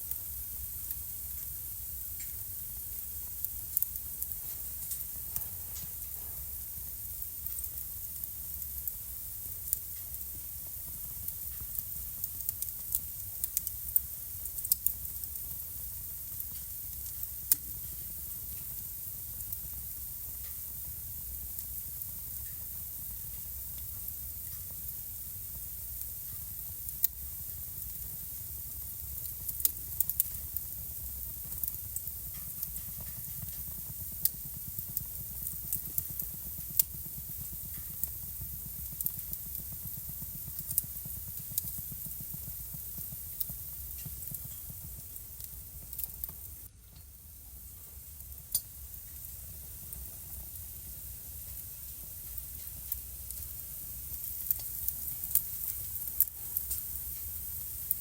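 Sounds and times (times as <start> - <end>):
fire crackling and popping: 0.0 - 58.0
fire hissing and rumbling: 0.0 - 58.0.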